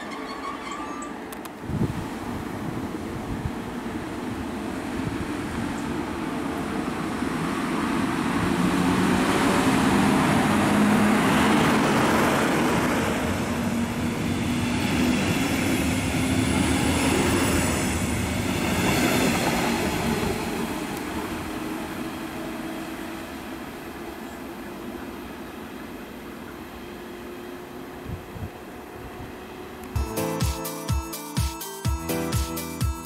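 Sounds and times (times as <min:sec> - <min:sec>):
locomotive hum: 0:00.0 - 0:30.0
train wheels on rails: 0:00.0 - 0:30.0.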